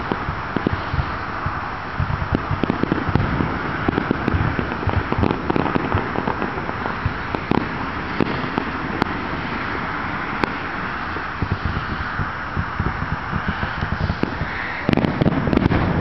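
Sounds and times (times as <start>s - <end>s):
fireworks booming and crackling: 0.0s - 16.0s
steady background noise: 0.0s - 16.0s.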